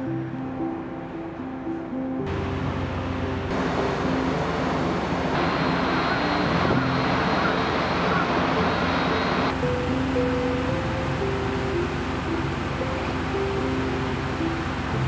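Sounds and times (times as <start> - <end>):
quiet background music: 0.0 - 15.0
ship machinery and wind rumble: 0.0 - 15.0
thin high steady tone: 2.3 - 15.0.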